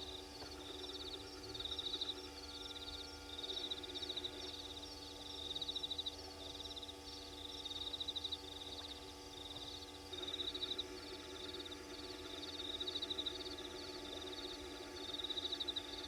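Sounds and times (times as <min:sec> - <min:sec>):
high-pitched pulsed trills: 0:00.0 - 0:08.2, 0:09.4 - 0:16.0.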